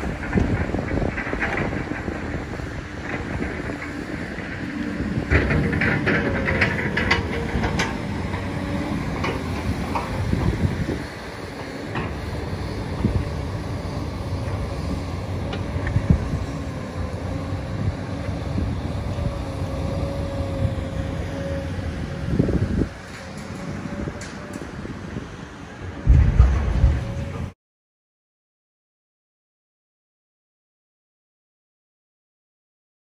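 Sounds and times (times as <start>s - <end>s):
demolition machinery rumbling: 0.0s - 27.6s.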